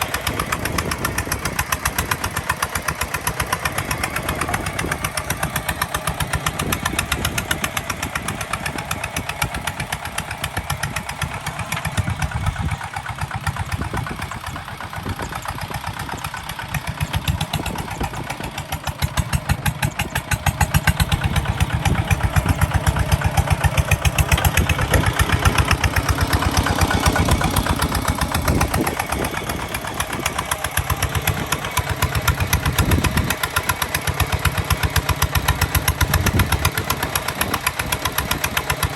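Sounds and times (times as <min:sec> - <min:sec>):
diesel engine puttering: 0:00.0 - 0:38.9.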